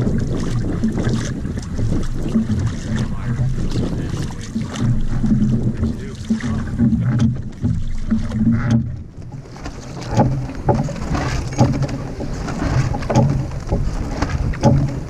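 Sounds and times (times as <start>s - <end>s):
low rumble: 0.0s - 15.0s
water knocking against boat hull: 0.0s - 15.0s.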